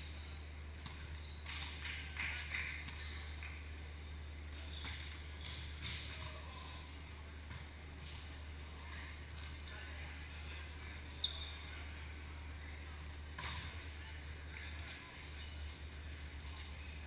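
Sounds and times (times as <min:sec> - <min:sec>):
low gym hum: 0:00.0 - 0:17.0.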